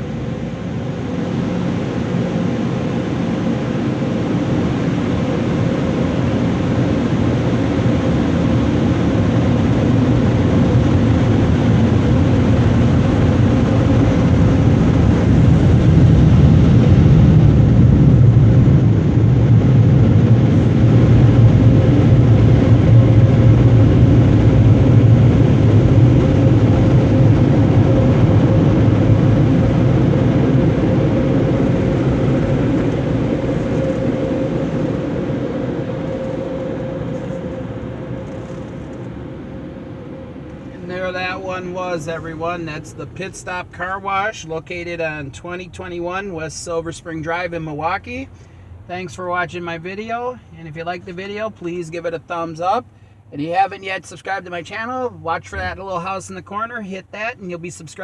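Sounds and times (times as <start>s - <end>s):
air dryer blowers roaring: 0.0s - 58.0s
constant hum: 0.0s - 58.0s.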